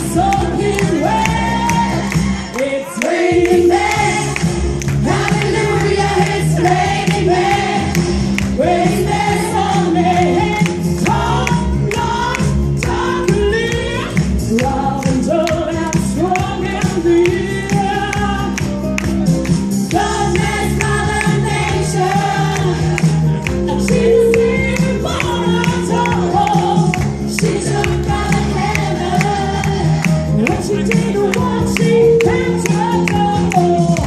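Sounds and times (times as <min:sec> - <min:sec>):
choir singing gospel with band: 0:00.0 - 0:18.3, 0:19.9 - 0:34.0.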